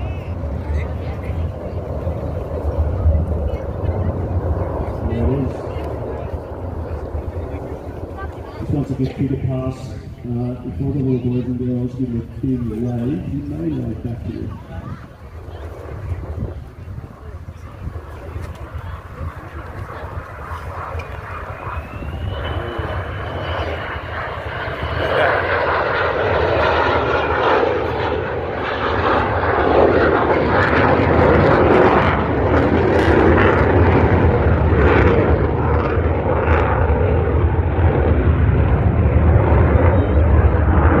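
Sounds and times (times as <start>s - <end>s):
fighter jet passing low: 0.0s - 41.0s.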